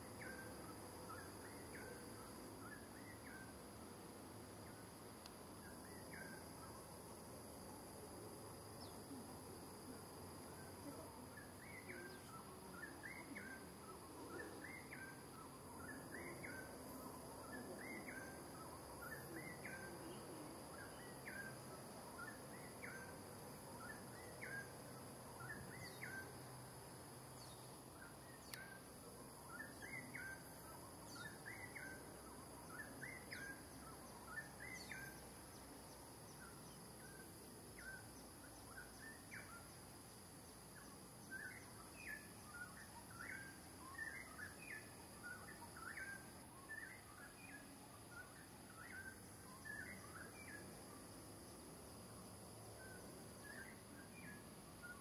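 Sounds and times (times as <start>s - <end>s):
high insect hum: 0.0s - 55.0s.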